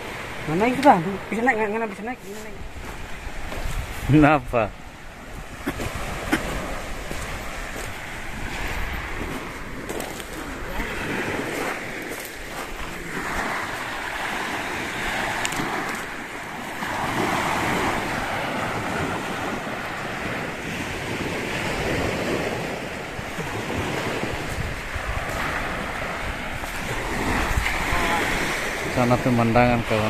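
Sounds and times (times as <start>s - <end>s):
surf washing onto beach: 0.0s - 30.0s
wind buffeting microphone: 0.0s - 30.0s.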